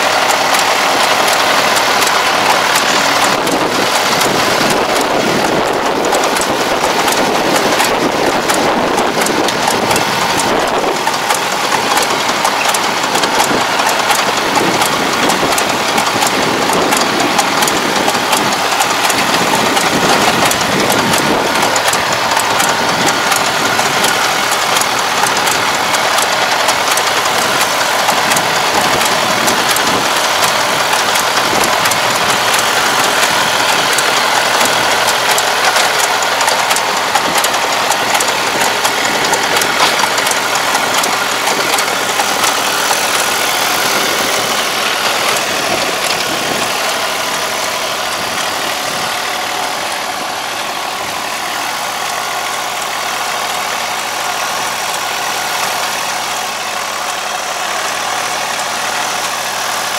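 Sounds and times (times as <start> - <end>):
frequent clicking: 0.0 - 59.9
tractor diesel engine running: 0.0 - 59.9.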